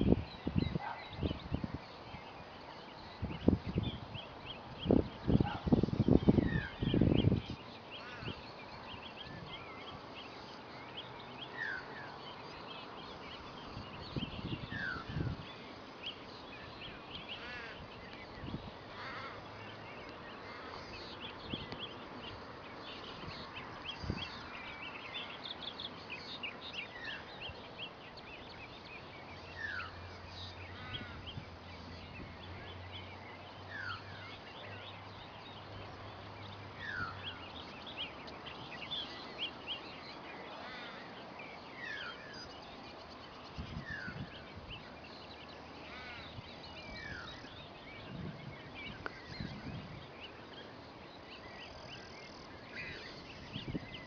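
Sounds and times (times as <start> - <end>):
small birds chirping and twittering: 0.0 - 54.0.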